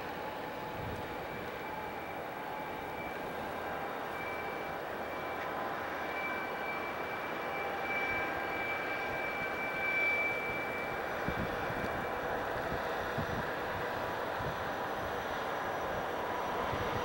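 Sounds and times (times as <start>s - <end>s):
distant locomotive engine drone: 0.0s - 17.0s
high held whine: 0.0s - 17.0s.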